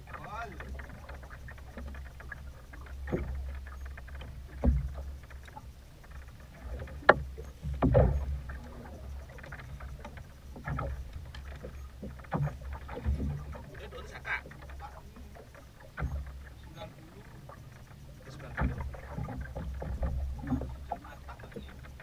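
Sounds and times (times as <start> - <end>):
waves slapping boat hull: 0.0 - 22.0.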